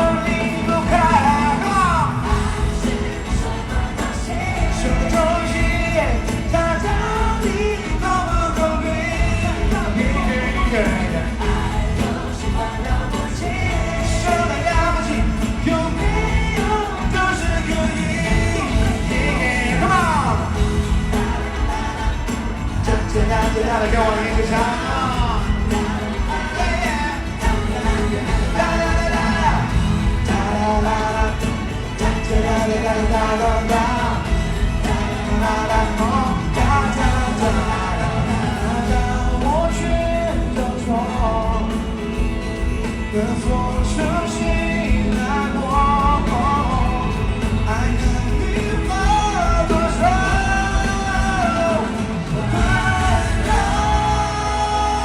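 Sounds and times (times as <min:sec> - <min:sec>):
person singing: 0:00.0 - 0:55.0
pop-rock band playing live: 0:00.0 - 0:55.0.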